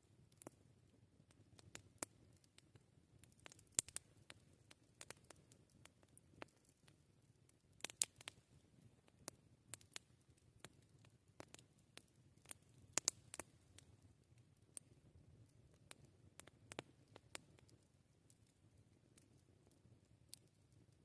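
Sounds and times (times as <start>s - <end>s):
campfire crackling: 0.0s - 21.0s
faint low background noise: 0.0s - 21.0s.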